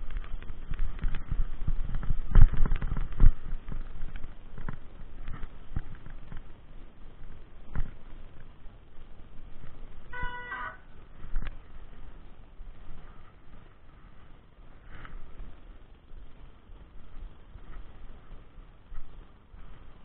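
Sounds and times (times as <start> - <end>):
mountain bike rattling on trail: 0.0 - 20.0.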